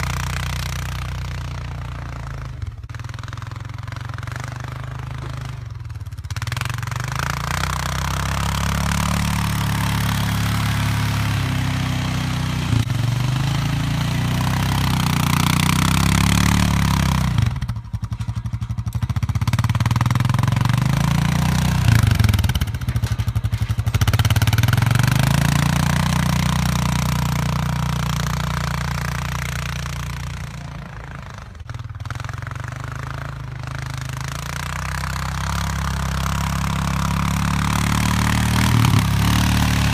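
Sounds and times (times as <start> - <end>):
atv engine working under load: 0.0 - 39.9.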